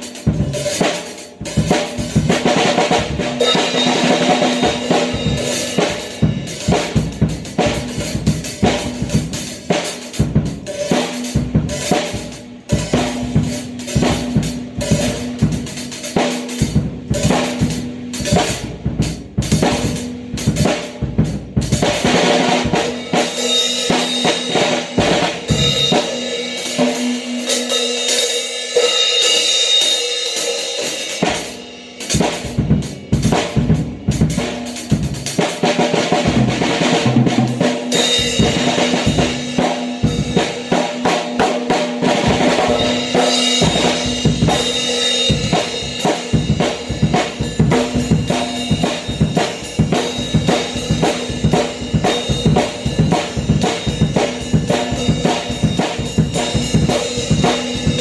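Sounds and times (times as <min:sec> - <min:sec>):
acoustic drum kit playing: 0:00.0 - 0:58.0.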